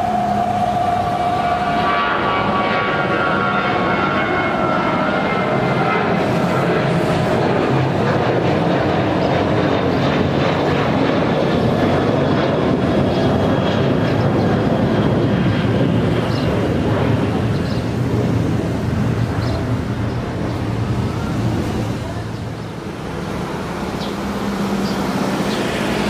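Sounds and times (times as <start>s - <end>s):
jet engine noise: 0.0s - 26.0s.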